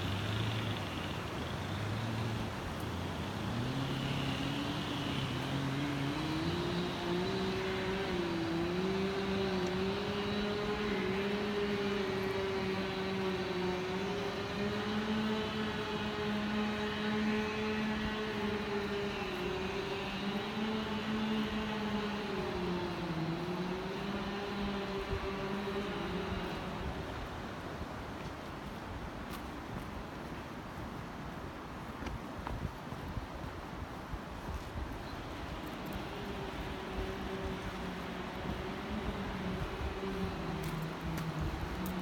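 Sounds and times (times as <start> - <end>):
lower engine tone: 0.0 - 31.2, 32.9 - 42.0
engine running steadily: 0.0 - 42.0.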